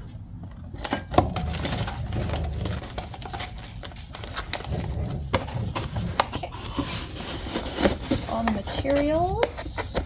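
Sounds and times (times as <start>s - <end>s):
handling rustle: 1.4s - 10.0s.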